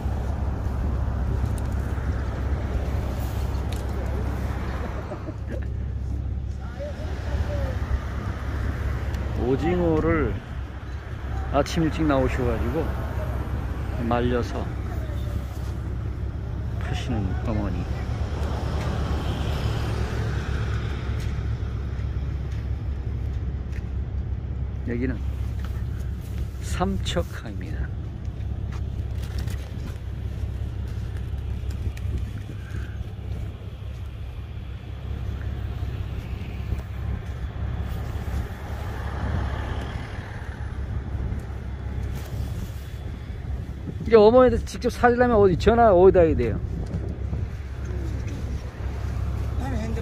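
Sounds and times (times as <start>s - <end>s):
passing vehicle: 0.0s - 50.0s
road traffic noise: 0.0s - 50.0s
wind rumble on microphone: 0.0s - 50.0s.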